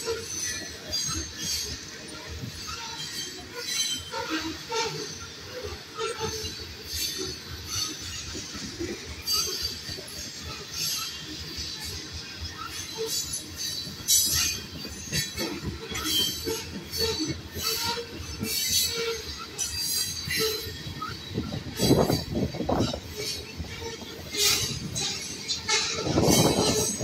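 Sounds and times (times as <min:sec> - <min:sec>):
high-pitched wheel squeal: 0:00.0 - 0:27.0
train wheels rumbling on rail: 0:00.0 - 0:27.0.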